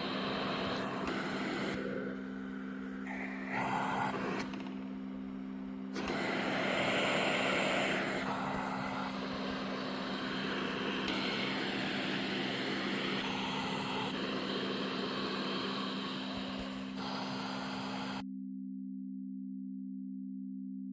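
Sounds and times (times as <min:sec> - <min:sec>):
blower air rush: 0:00.0 - 0:04.9, 0:05.5 - 0:18.2.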